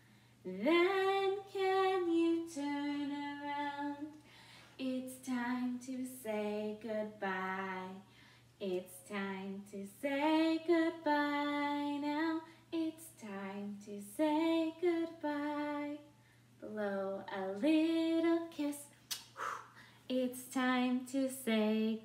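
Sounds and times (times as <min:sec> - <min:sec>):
woman singing unaccompanied: 0:00.5 - 0:04.2, 0:04.8 - 0:19.0, 0:20.1 - 0:22.0.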